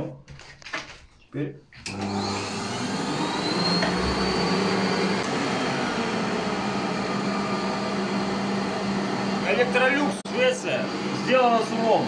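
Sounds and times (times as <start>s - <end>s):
vacuum cleaner motor running: 1.9s - 12.0s.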